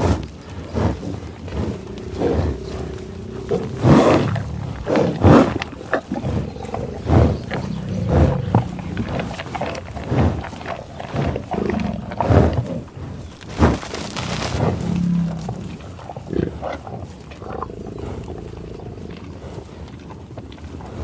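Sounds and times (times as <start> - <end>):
bison grunting: 0.0 - 21.0.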